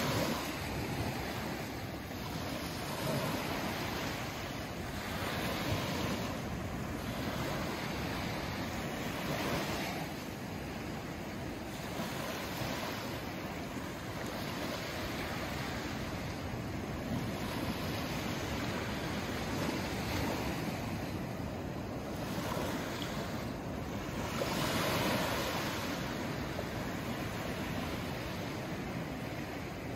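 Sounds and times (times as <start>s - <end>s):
small waves breaking on a beach: 0.0s - 29.9s.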